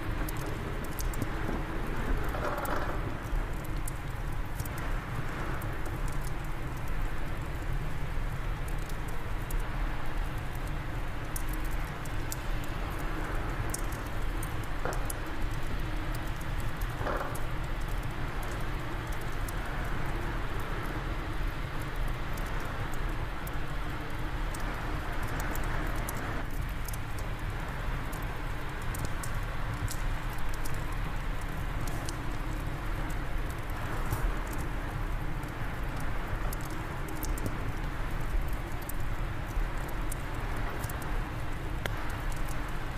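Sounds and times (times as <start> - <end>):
low wind noise: 0.0 - 42.9
wood fire crackling: 0.0 - 42.9.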